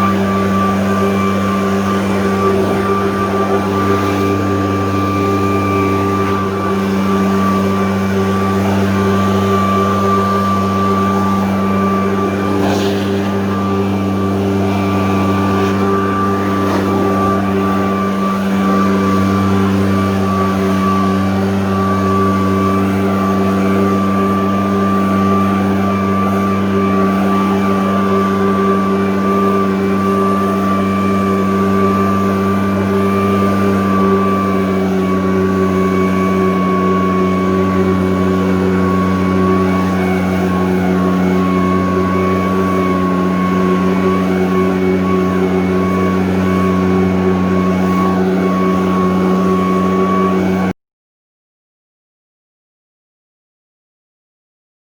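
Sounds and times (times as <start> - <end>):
engine blower running: 0.0 - 50.8.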